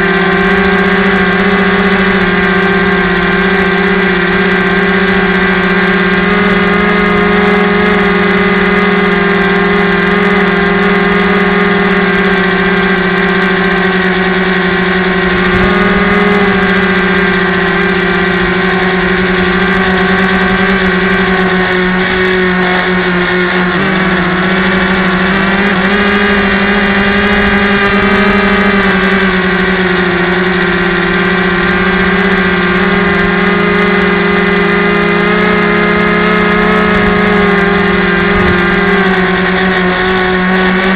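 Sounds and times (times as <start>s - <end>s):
model plane motor humming: 0.0s - 40.9s.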